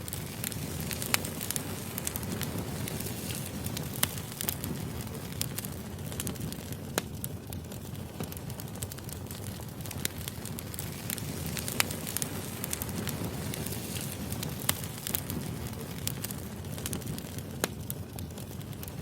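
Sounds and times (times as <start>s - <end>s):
burning logs crackling and popping: 0.0s - 19.0s
low fire rumble: 0.0s - 19.0s.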